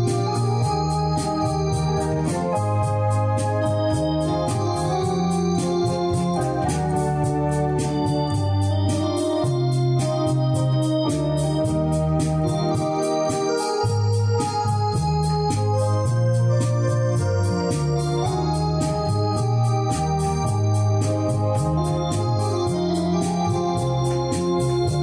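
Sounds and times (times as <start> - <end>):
electronic organ playing chords: 0.0 - 25.0
steady percussive beat: 0.0 - 25.0.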